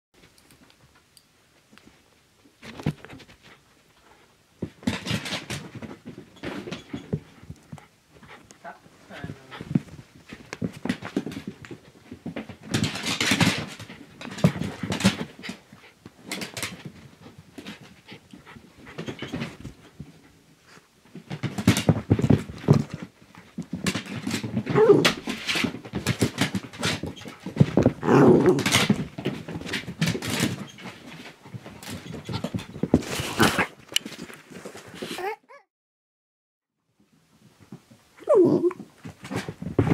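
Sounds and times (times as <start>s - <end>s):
dog paws scrabbling: 1.8s - 35.3s, 37.6s - 39.9s
dogs scuffling and knocking: 2.6s - 20.4s, 21.0s - 35.2s, 37.4s - 39.9s.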